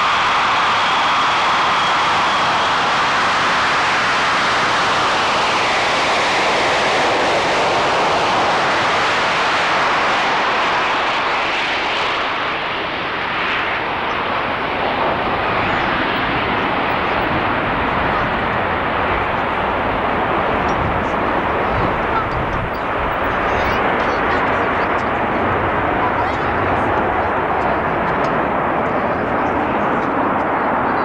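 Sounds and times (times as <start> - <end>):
jet bomber taking off: 0.0 - 31.0.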